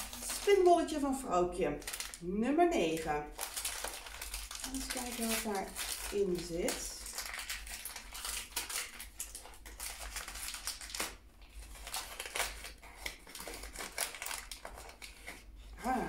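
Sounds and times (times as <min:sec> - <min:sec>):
paper wrapping crinkling: 0:00.0 - 0:16.0.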